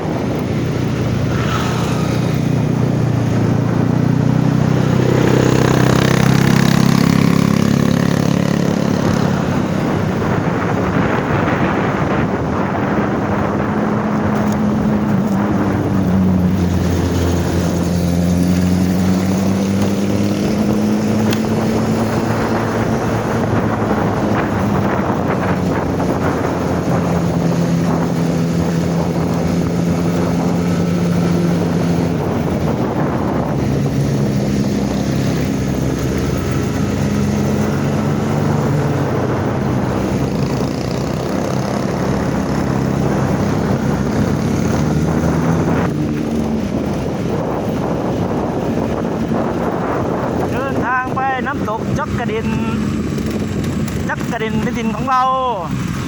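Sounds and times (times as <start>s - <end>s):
vehicle engine running: 0.0s - 56.0s
wind buffeting microphone: 0.0s - 56.0s.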